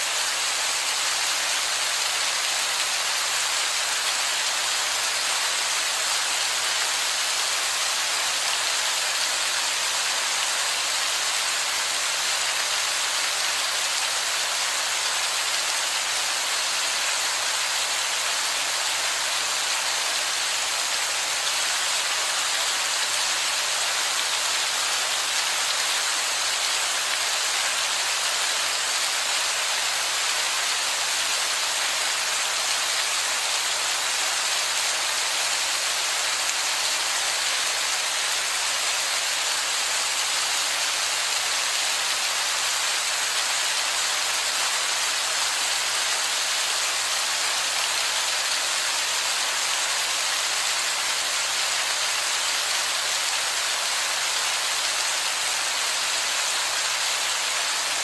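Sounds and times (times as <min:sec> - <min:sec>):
heavy rain splashing on rock: 0:00.1 - 0:58.0.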